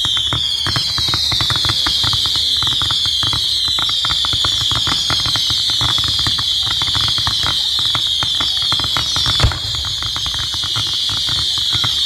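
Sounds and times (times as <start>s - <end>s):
fireworks crackling pops: 0.0s - 12.0s
fireworks high whistling: 0.0s - 12.0s.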